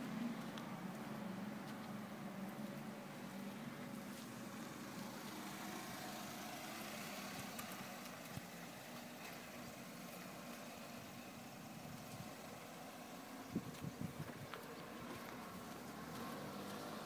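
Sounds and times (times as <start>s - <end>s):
faint vehicle engine hum: 0.0s - 17.0s.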